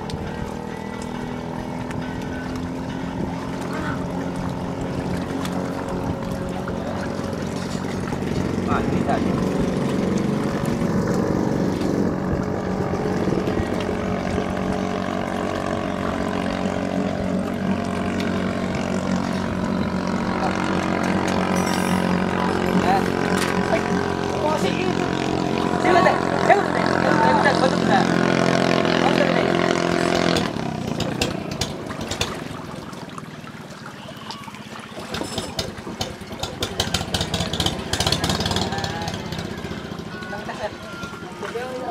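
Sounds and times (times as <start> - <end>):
racing boat engine drone: 0.0 - 41.9.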